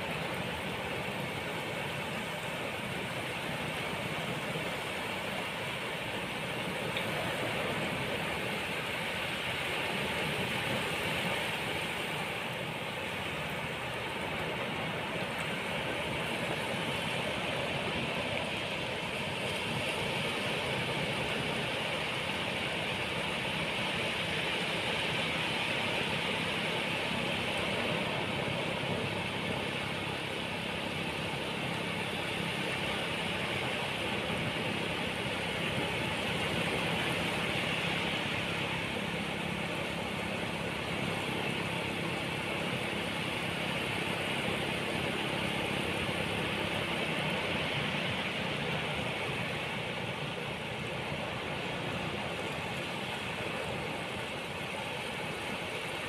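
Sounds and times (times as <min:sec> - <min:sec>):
ocean waves washing onto beach: 0:00.0 - 0:56.0.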